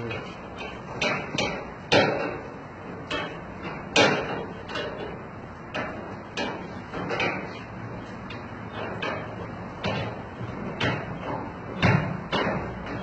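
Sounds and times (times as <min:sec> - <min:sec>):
machine clattering and knocking: 0:00.1 - 0:13.0.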